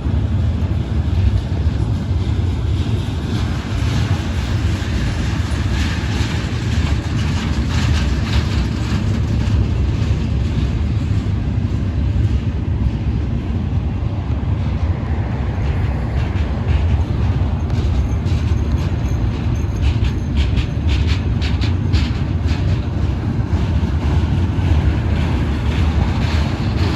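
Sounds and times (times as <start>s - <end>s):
freight train rolling past: 0.0s - 26.9s.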